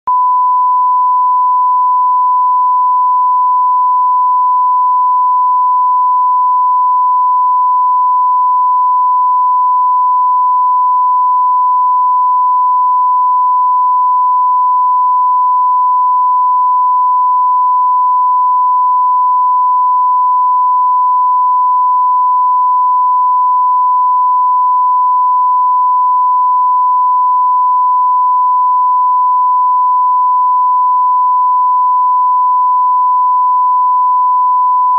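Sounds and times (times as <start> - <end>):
sine-wave reference tone: 0.1 - 34.9.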